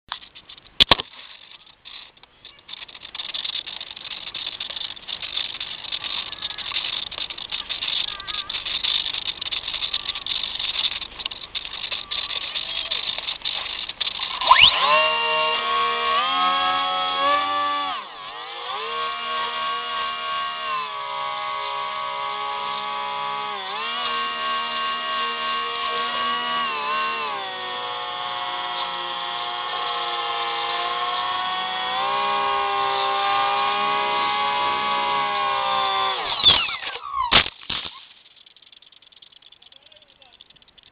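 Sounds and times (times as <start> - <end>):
electric motor and propeller whine: 1.2 - 37.4.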